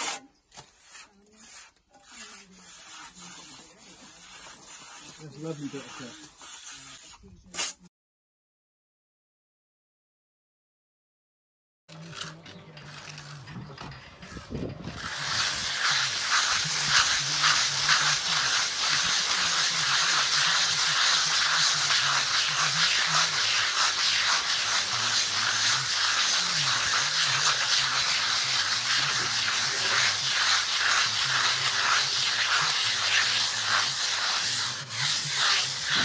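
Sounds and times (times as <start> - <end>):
float scraping on render: 0.0 - 7.8, 11.9 - 36.0.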